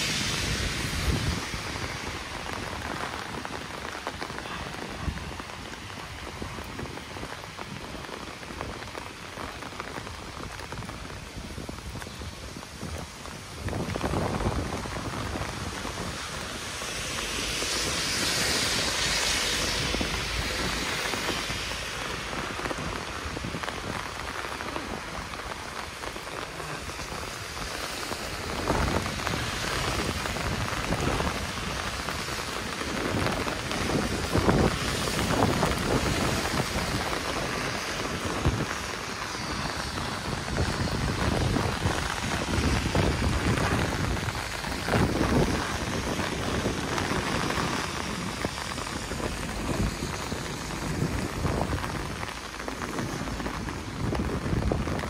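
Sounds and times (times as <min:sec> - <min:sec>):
rain on wet paving: 0:00.0 - 0:55.0.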